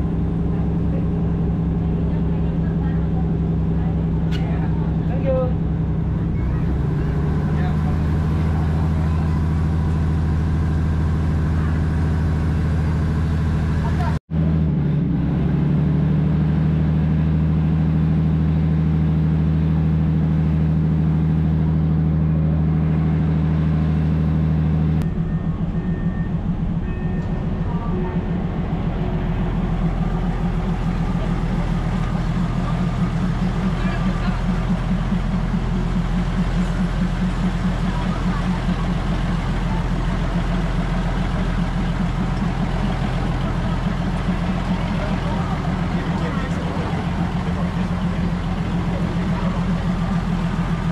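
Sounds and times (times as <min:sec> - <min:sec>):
diesel train engine humming: 0:00.0 - 0:50.9.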